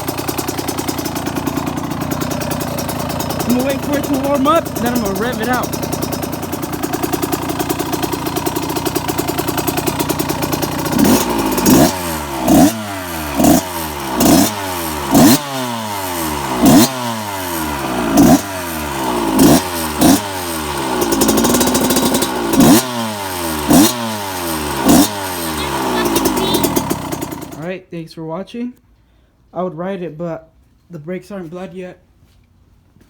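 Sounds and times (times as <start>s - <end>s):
two-stroke engine revving: 0.0s - 27.7s.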